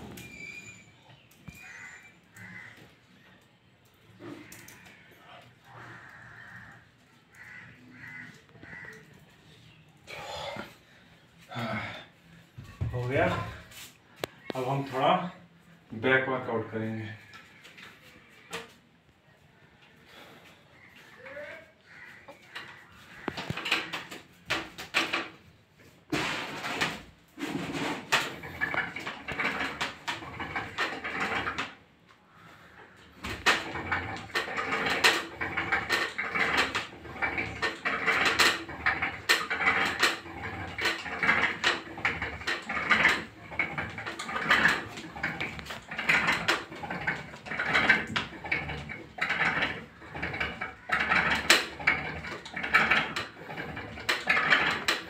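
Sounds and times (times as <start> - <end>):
rope and wooden bar creaking: 0.0 - 19.0, 20.8 - 55.0.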